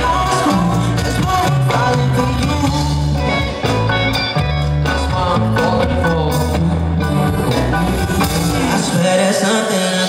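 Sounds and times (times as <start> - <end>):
male vocals singing: 0.0 - 3.8, 4.6 - 10.0
live pop band: 0.0 - 10.0.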